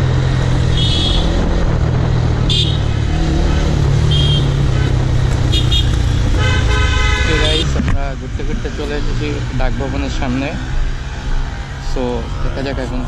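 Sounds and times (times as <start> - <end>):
motorcycle engine cruising: 0.0 - 12.6.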